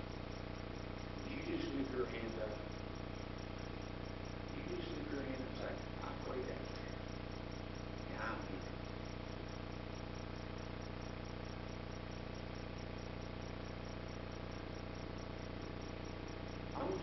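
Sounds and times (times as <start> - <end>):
electrical hum and hiss: 0.0 - 17.0.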